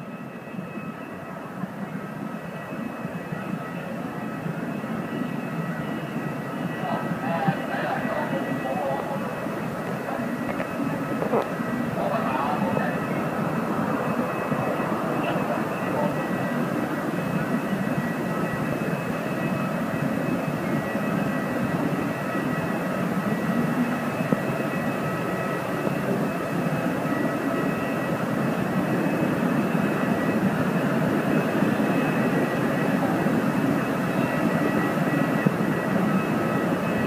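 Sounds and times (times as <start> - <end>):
jet turbine whine: 0.0 - 37.0.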